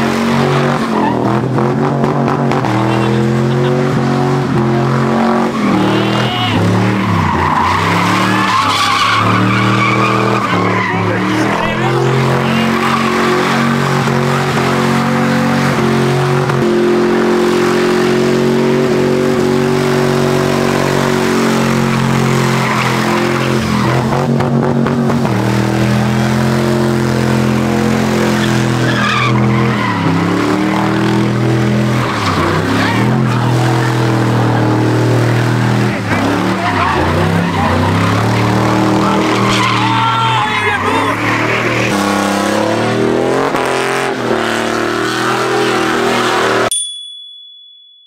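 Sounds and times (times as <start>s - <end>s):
truck engine at high revs: 0.0s - 46.7s
tyres screeching on asphalt: 0.0s - 46.7s.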